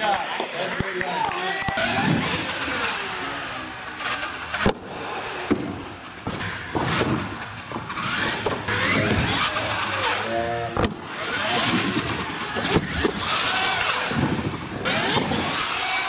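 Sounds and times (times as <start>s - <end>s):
toy truck motors whining: 0.0s - 16.0s
toy trucks landing and tumbling: 1.4s - 16.0s.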